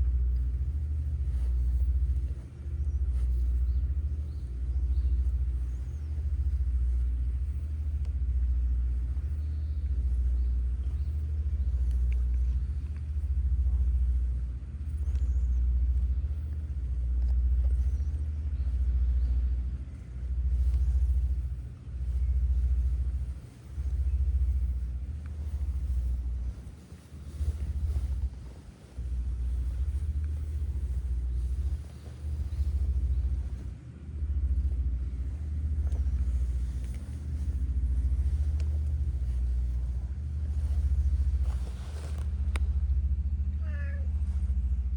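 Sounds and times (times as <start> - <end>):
cat purring: 0.0 - 42.1.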